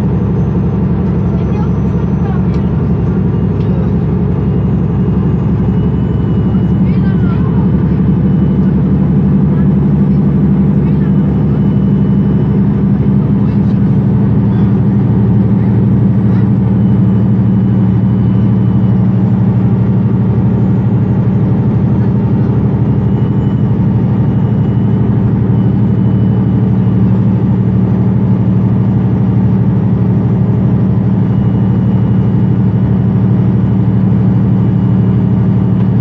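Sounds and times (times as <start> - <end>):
bus diesel engine idling: 0.0 - 36.0.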